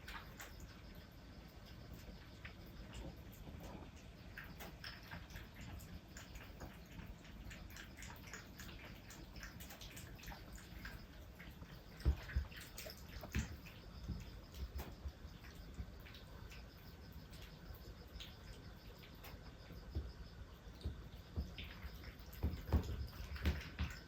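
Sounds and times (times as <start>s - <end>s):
kittens chewing and lapping: 0.0s - 24.0s.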